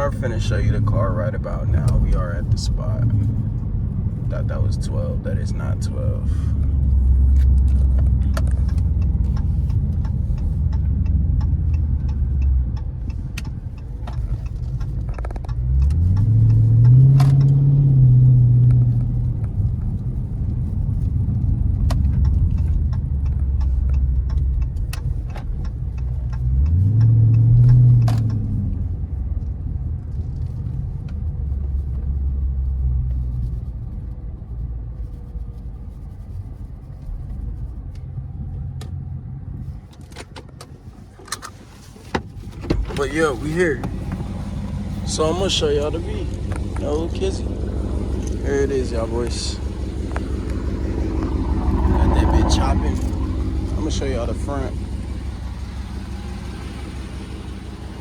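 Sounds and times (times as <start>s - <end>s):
car engine revving: 0.0s - 33.7s, 40.7s - 58.0s.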